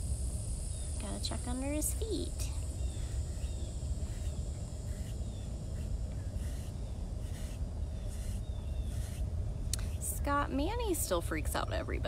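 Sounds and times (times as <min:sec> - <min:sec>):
high insect drone: 0:00.0 - 0:11.1
low steady rumble: 0:00.0 - 0:12.0.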